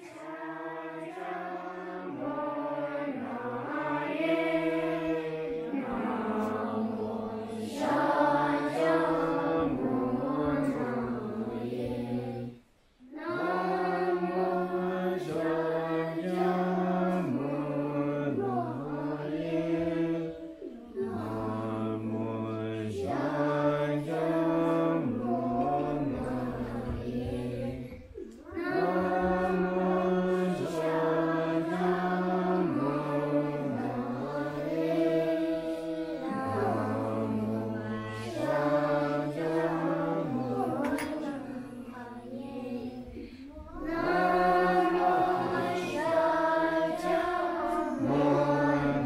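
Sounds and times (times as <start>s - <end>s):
monks chanting in unison: 0.0s - 49.0s.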